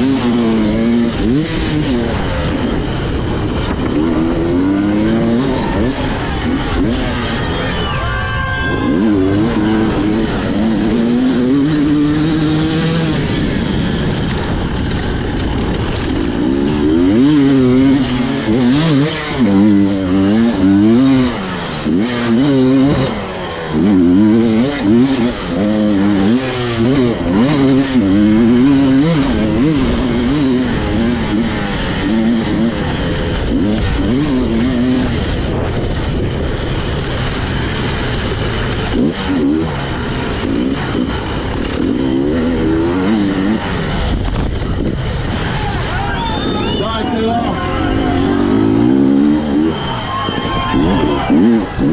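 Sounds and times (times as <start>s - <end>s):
two-stroke motorcycle engine revving: 0.0s - 7.9s, 8.7s - 51.9s.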